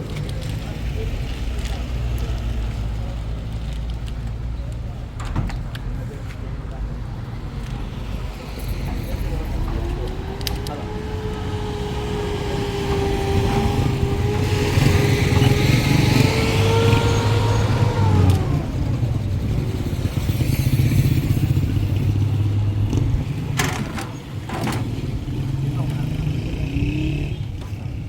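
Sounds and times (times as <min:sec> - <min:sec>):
vehicle engine low rumble: 0:00.0 - 0:28.0.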